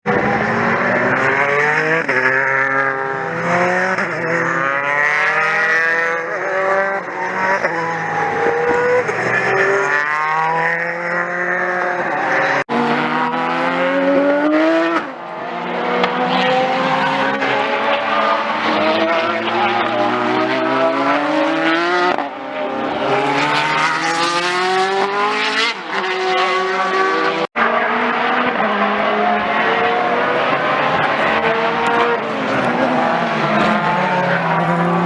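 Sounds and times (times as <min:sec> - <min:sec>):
racing car engines revving: 0:00.1 - 0:35.0.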